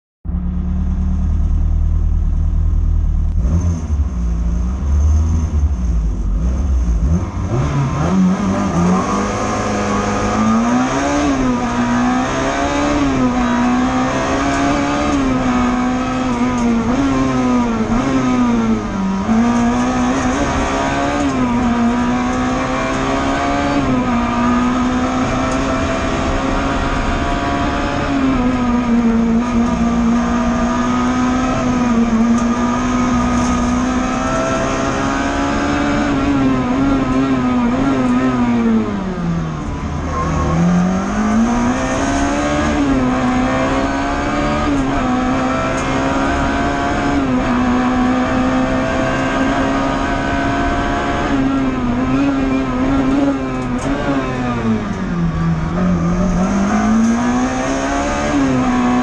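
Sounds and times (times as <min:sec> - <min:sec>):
car engine revving hard: 0:03.3 - 0:59.0.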